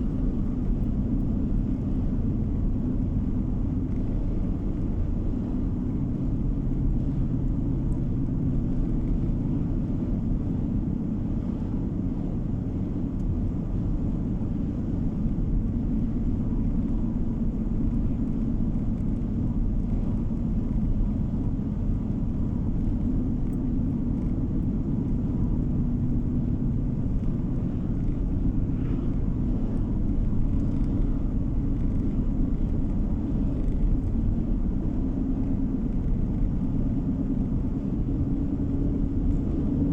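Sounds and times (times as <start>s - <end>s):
car driving heard from inside: 0.0s - 39.9s.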